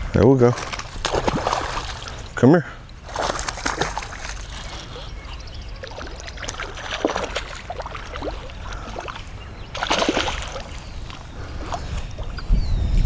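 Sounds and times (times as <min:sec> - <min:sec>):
fish thrashing and splashing water: 0:00.4 - 0:12.5.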